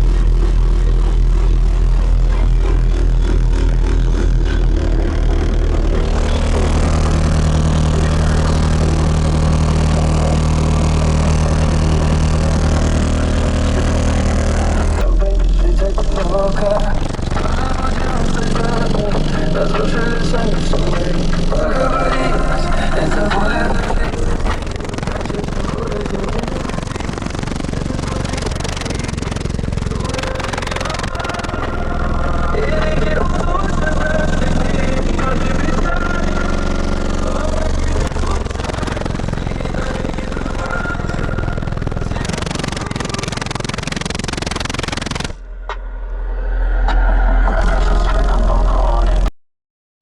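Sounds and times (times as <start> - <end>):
loud low bass tone: 0.0 - 46.4
noisy buzz: 0.0 - 49.3.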